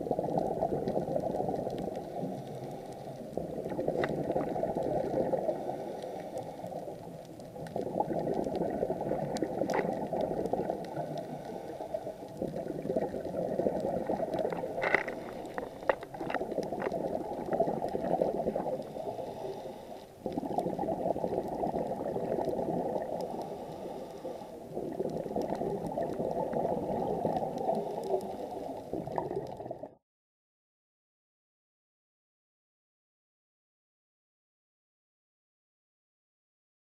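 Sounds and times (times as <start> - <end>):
water bubbling underwater: 0.0 - 30.0.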